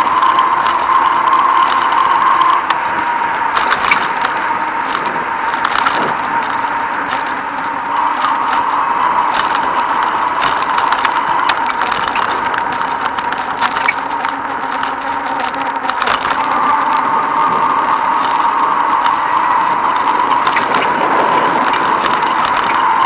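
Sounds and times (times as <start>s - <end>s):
bicycle rolling hum: 0.0s - 23.0s
bike clicks and rattles: 0.0s - 23.0s.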